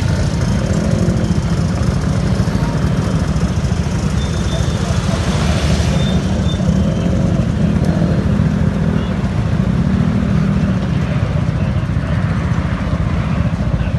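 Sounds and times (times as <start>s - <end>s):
vehicle engine running: 0.0s - 13.9s.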